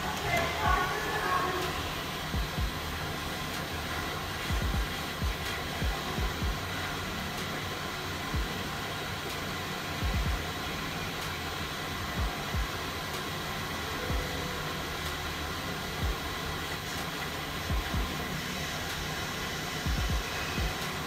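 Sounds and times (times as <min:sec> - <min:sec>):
hot air blower blowing: 0:00.0 - 0:21.0.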